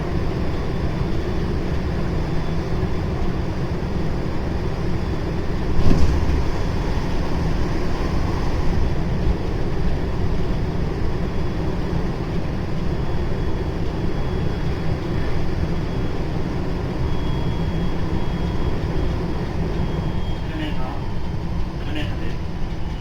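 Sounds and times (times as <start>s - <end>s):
train wheels rumbling: 2.7s - 23.0s.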